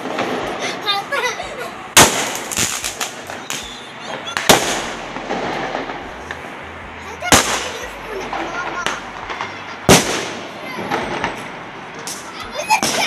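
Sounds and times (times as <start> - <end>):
fireworks banging: 0.0 - 13.0
fireworks cracks: 0.0 - 13.0.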